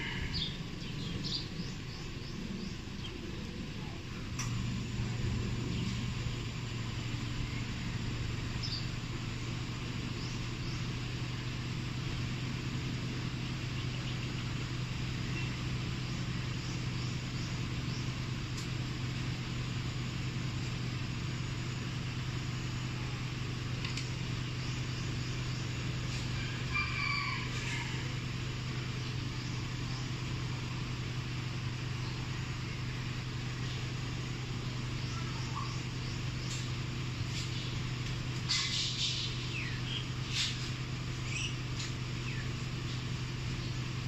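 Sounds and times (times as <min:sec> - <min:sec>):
small birds chirping: 0:00.0 - 0:44.0
vehicle engine idling: 0:00.0 - 0:44.0.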